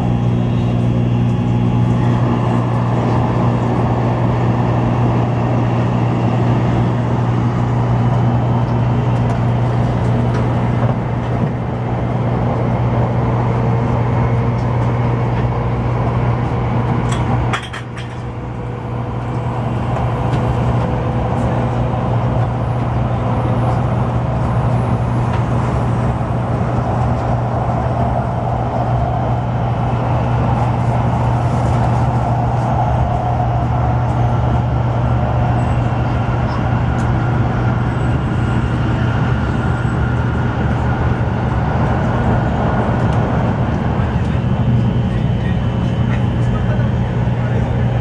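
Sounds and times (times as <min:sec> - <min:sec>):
train running at speed: 0:00.0 - 0:48.0.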